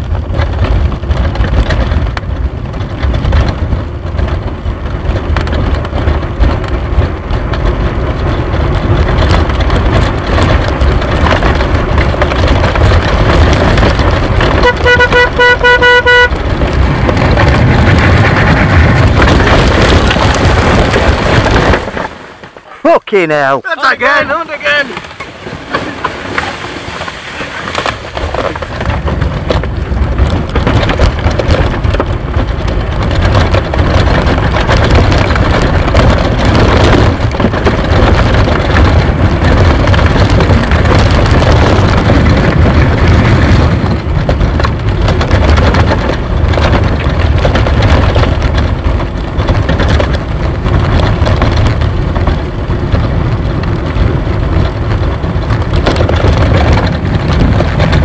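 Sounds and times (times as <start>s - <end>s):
cart wheels rumbling and rattling: 0.0s - 58.0s
wind buffeting microphone: 0.0s - 58.0s.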